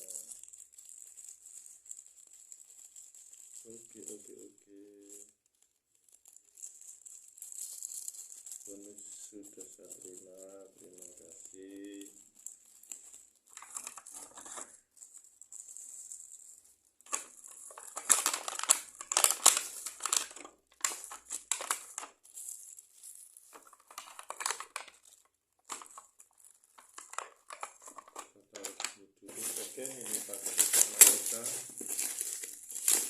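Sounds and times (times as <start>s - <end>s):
plastic packaging crinkling: 0.0s - 33.0s.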